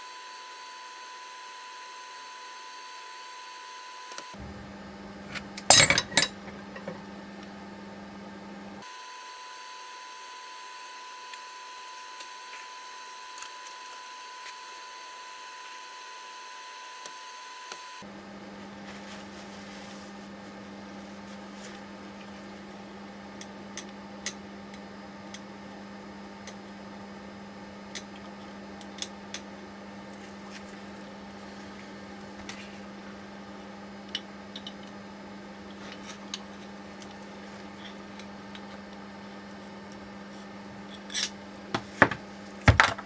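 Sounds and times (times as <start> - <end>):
low electrical hum: 4.3 - 17.3, 18.0 - 43.0.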